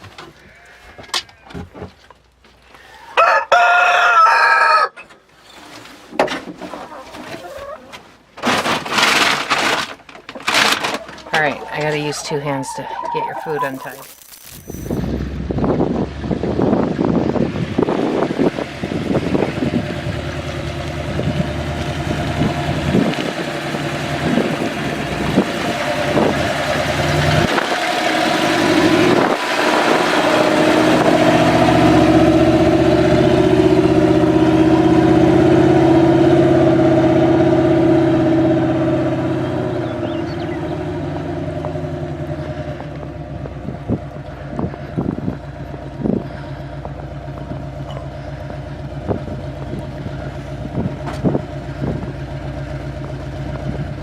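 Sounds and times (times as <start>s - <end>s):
vehicle engine running: 10.4s - 54.0s.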